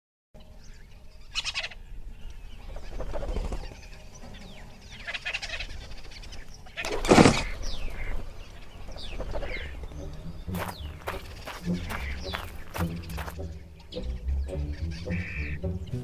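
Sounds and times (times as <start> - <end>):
harsh bird call: 0.6 - 16.0.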